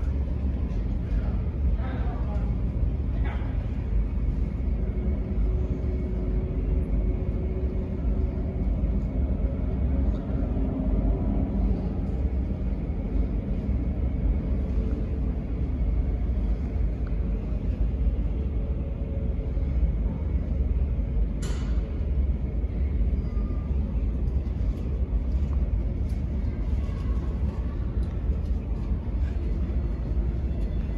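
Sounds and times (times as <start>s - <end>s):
faint hum: 0.0s - 30.9s
jet engines rumbling: 0.0s - 30.9s.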